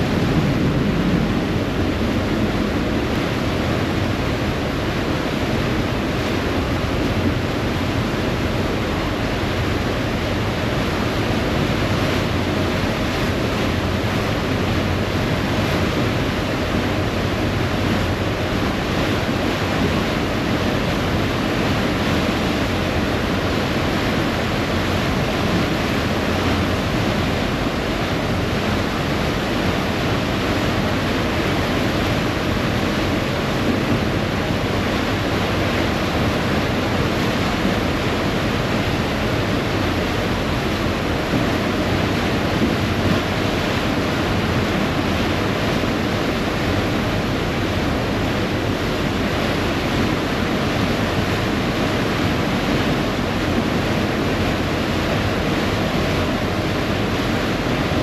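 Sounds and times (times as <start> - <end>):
ferry engine rumble: 0.0 - 58.0
wake water rushing: 0.0 - 58.0
wind on microphone: 0.0 - 58.0.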